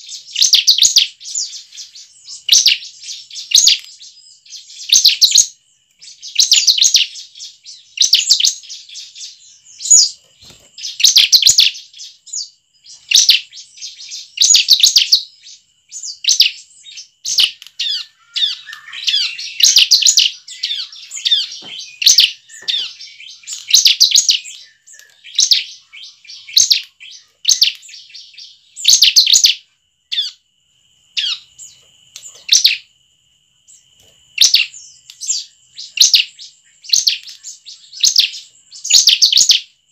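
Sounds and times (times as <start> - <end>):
bird singing high chirping trills: 0.0 - 30.4, 31.1 - 32.9, 33.7 - 39.9.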